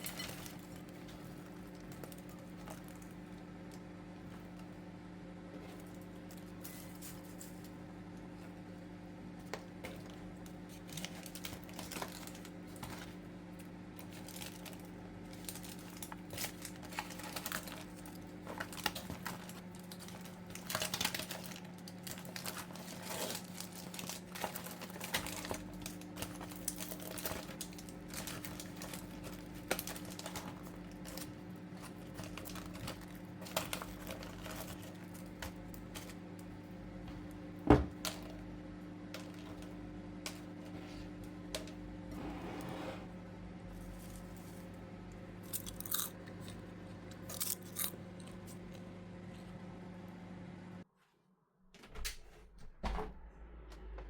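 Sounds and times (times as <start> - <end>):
popcorn popping: 0.0 - 42.1, 45.2 - 48.4
microwave oven hum: 0.0 - 54.0.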